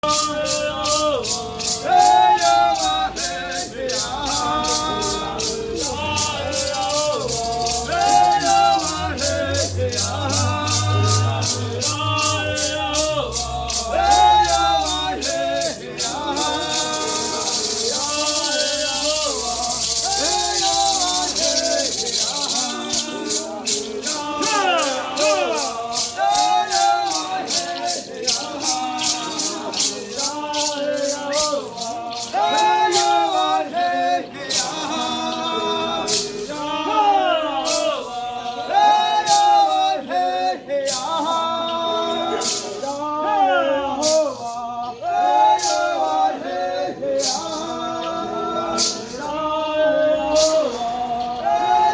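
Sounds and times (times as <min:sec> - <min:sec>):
rattles shaken on a beat: 0:00.0 - 0:51.9
voices singing a chant: 0:00.0 - 0:51.9.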